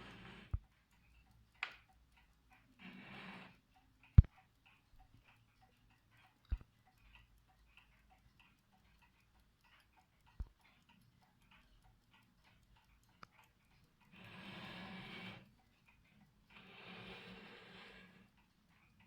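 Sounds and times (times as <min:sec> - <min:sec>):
clock ticking: 0:00.0 - 0:19.0.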